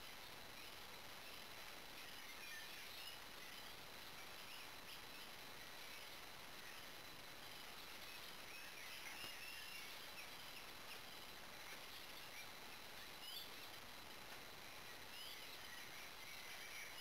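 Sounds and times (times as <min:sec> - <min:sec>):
faint songbirds chirping: 0:00.0 - 0:17.0
microphone hiss: 0:00.0 - 0:17.0.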